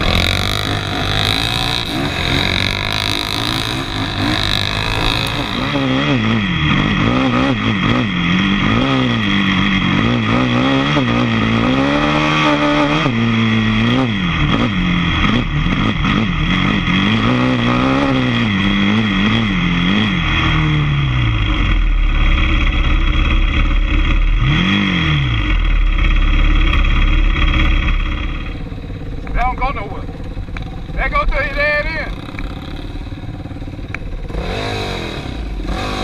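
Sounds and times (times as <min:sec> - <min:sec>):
steady low engine rumble: 0:00.0 - 0:11.9, 0:12.8 - 0:36.0
atv engine revving: 0:00.0 - 0:36.0.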